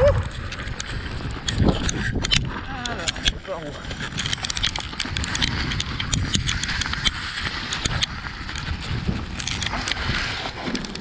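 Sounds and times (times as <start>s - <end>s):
bike clicks and rattles: 0.0s - 11.0s.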